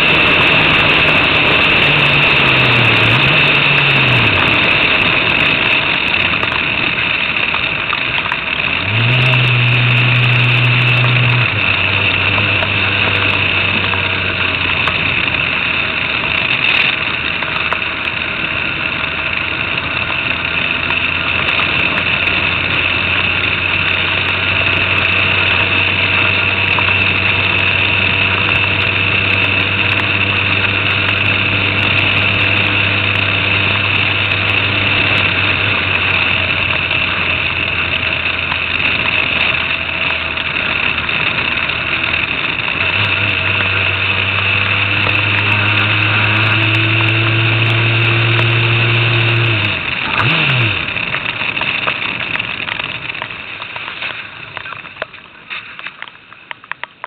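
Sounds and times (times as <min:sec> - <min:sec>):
race car engine running: 0:00.0 - 0:57.0
constant hiss: 0:00.1 - 0:57.0.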